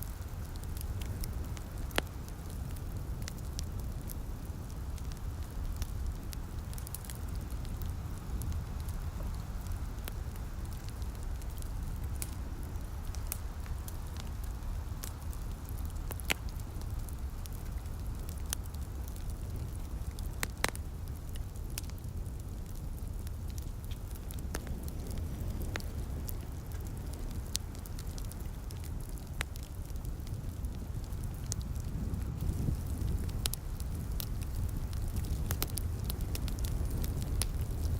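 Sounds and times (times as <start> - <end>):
rain patter: 0.0 - 37.9
wood fire crackling: 0.0 - 37.9.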